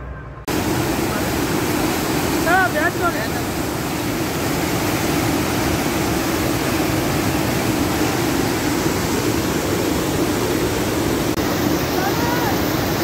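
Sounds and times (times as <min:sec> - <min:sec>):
stream rushing over boulders: 0:00.5 - 0:13.0.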